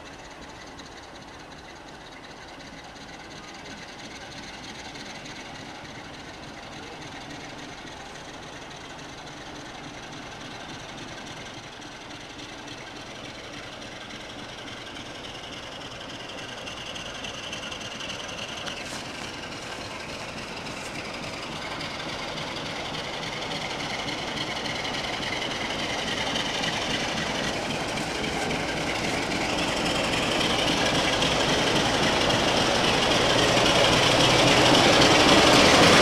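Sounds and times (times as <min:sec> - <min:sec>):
freight train approaching: 0:00.0 - 0:36.0.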